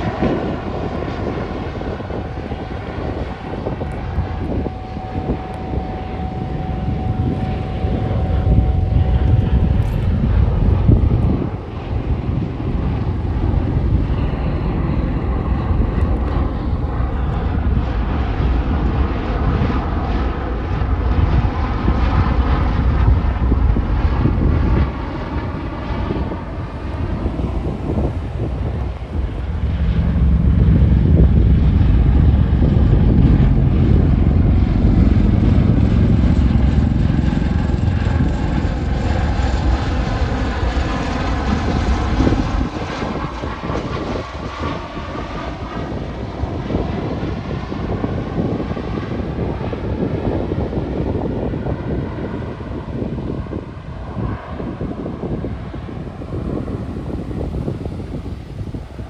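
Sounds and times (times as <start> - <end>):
helicopters flying past: 0.0 - 59.0.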